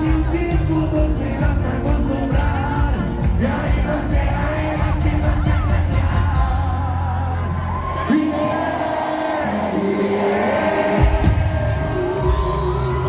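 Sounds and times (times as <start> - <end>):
heavy bass: 0.0 - 8.8, 11.0 - 13.0
band playing live: 0.0 - 13.0.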